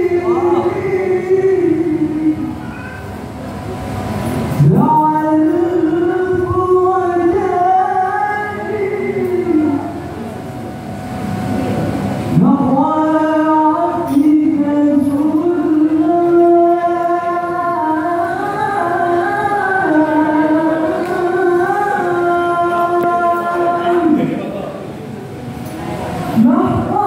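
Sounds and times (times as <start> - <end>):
group singing through microphones: 0.0 - 2.8, 4.2 - 24.7.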